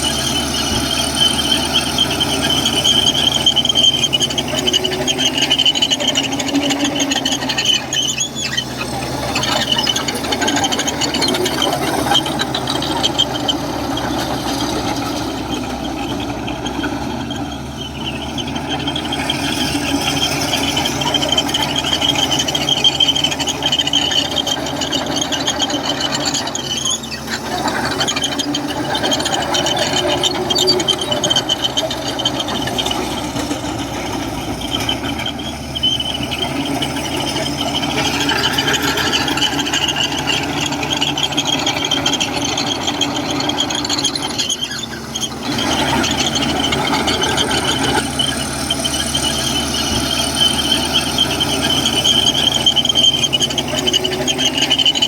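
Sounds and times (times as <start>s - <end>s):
bulldozer diesel engine running: 0.0s - 55.0s
high squeal: 0.0s - 55.0s.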